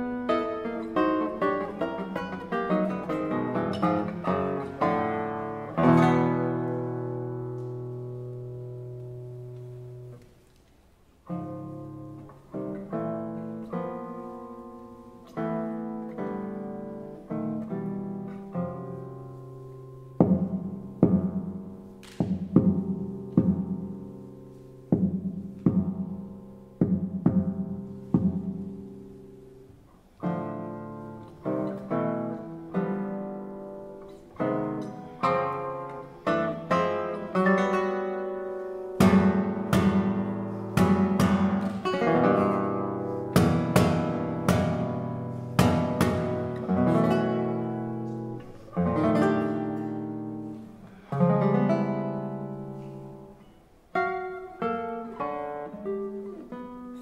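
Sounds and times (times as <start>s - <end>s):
classical guitar playing: 0.0s - 57.0s.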